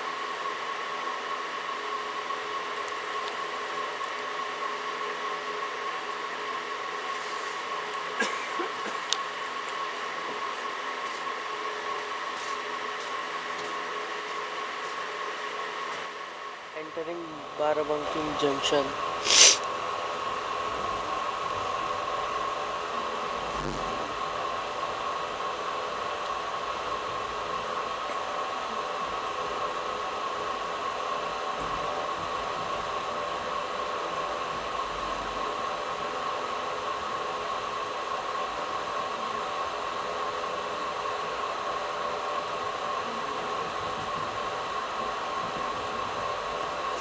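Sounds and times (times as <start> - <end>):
train coach hiss and hum: 0.0 - 16.7, 17.4 - 47.0
constant whine: 0.0 - 47.0.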